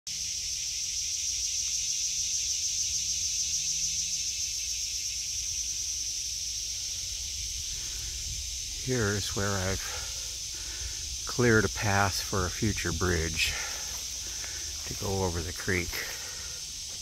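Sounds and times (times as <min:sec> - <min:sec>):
insects chorus: 0:00.1 - 0:17.0.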